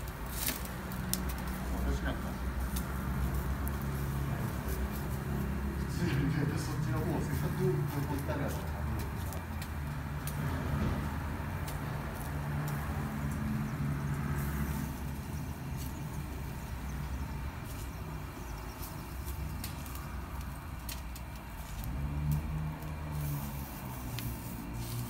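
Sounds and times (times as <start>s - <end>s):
gas grill humming: 0.0s - 25.0s
skewers crackling: 0.0s - 25.0s.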